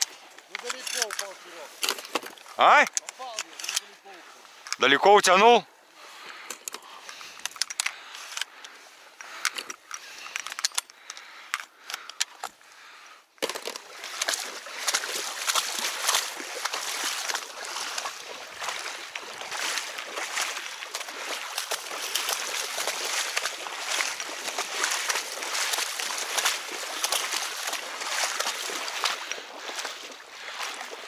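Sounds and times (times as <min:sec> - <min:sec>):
footsteps wading through shallow water: 0:00.0 - 0:04.9, 0:05.6 - 0:31.0.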